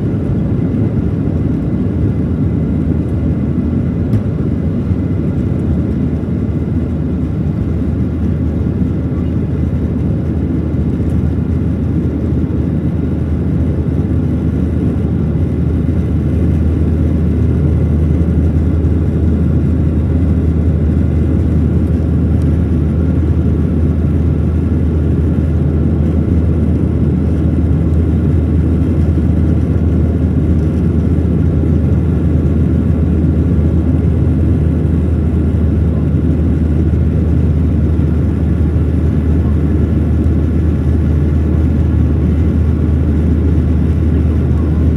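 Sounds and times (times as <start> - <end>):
airplane cabin engine roar: 0.0 - 44.9.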